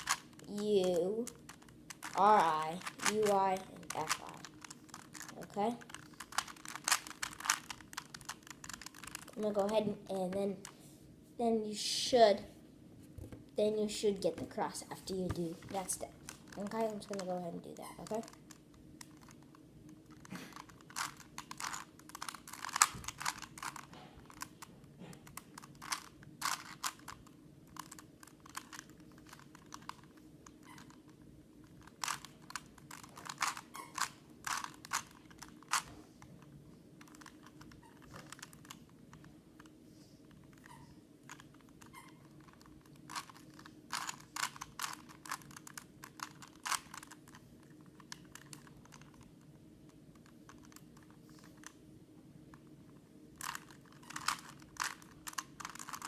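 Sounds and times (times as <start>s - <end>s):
plastic puzzle cube clicking: 0.0s - 9.8s, 15.4s - 36.4s, 37.0s - 39.7s, 40.3s - 51.8s, 53.4s - 56.0s.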